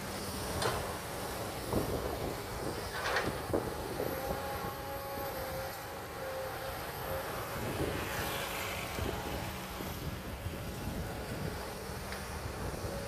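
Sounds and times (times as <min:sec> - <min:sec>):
excavator diesel engine: 0:00.0 - 0:13.0
thin steady whine: 0:00.0 - 0:13.0.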